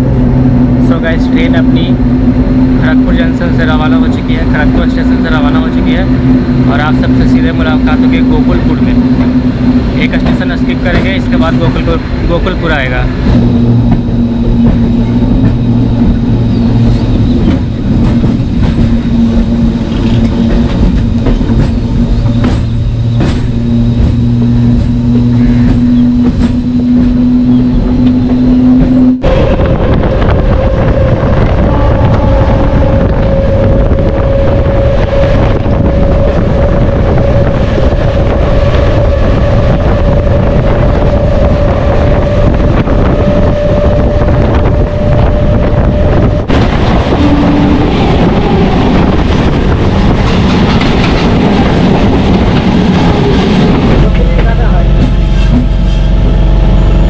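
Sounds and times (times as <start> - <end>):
electric train whine: 0.0 - 57.0.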